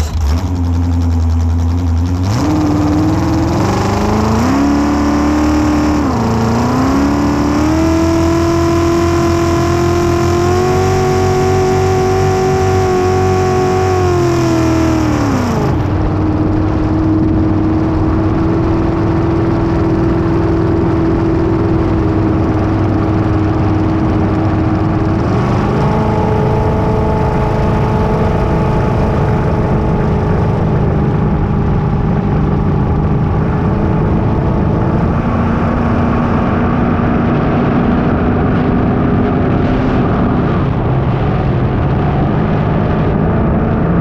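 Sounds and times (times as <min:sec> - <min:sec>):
racing boat engine at full throttle: 0:00.0 - 0:44.0.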